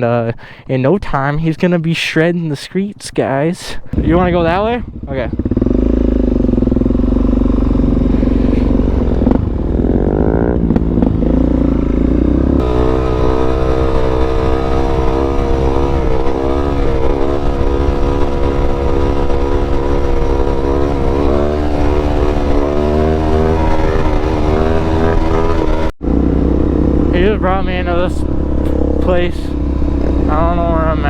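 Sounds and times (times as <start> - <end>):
motorcycle engine running: 3.9 - 31.0.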